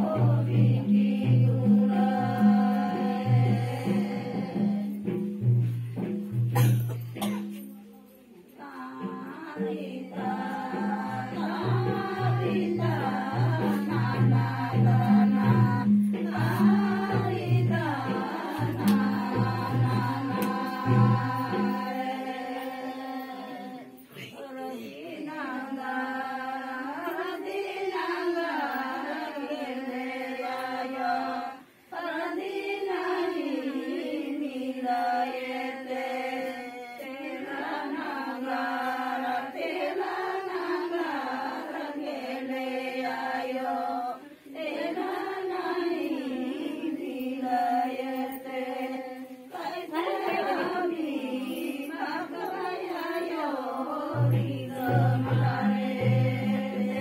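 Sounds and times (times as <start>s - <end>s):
voices singing chant-like song: 0.0s - 7.5s, 8.6s - 57.0s.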